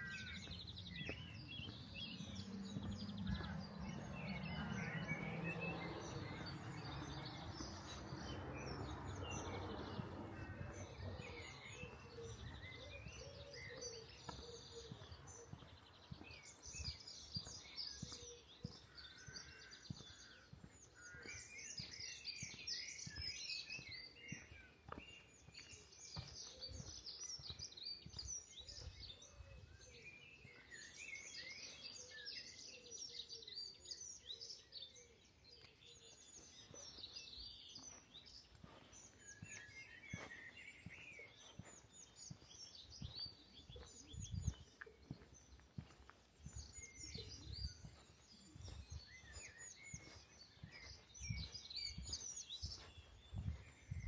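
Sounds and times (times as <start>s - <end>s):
soft footsteps: 0.0s - 29.2s, 36.4s - 54.0s
small birds chirping: 0.0s - 54.0s.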